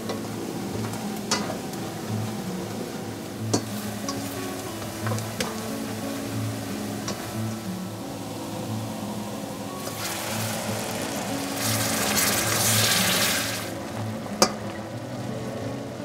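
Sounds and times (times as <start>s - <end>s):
broth sizzling and bubbling in pan: 0.0s - 16.0s.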